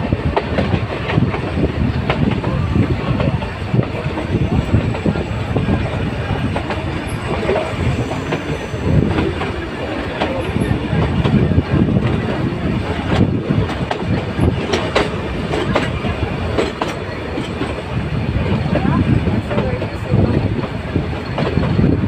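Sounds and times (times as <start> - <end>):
train wheels rumbling: 0.0 - 22.0
wheels clacking over rail joints: 0.0 - 22.0.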